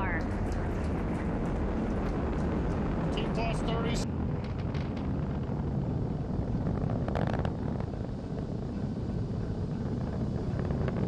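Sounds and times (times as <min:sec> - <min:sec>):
rocket rumble with crackles: 0:00.0 - 0:11.0.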